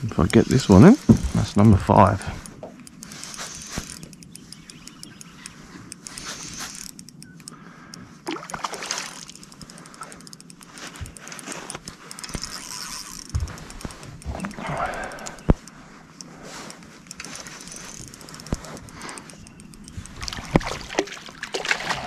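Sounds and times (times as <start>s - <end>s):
fishing reel ticking: 0.0s - 22.0s.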